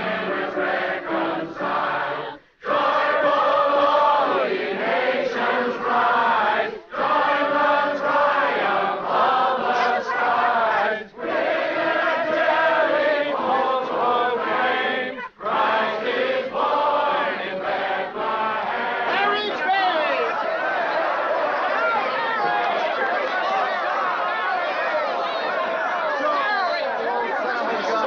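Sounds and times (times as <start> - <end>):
crowd singing a carol: 0.0 - 28.0.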